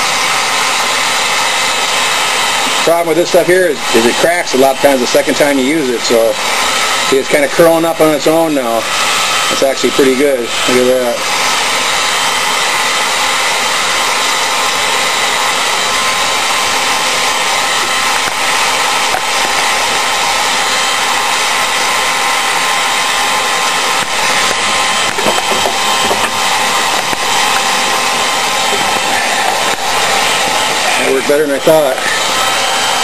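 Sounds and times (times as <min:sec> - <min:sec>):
heat gun blowing: 0:00.0 - 0:33.0.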